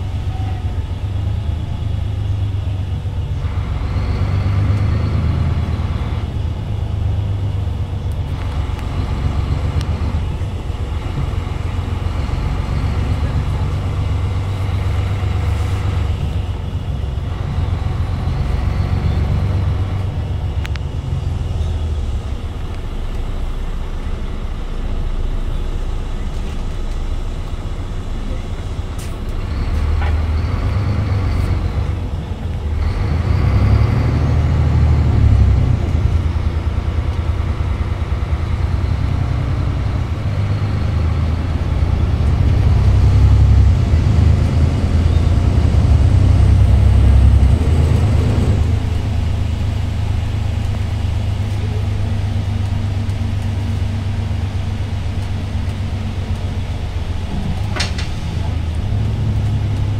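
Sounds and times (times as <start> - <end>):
bus diesel engine droning: 0.0 - 59.9
tyre and road noise: 0.0 - 59.9.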